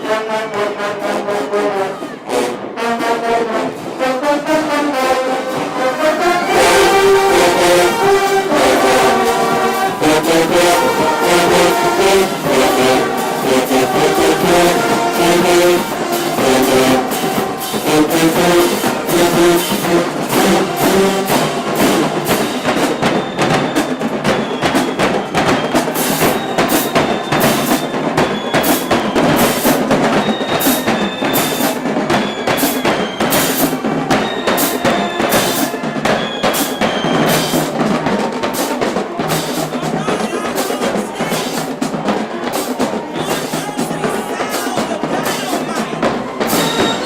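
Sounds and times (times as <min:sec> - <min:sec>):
drumline playing a cadence: 0:00.0 - 0:47.0.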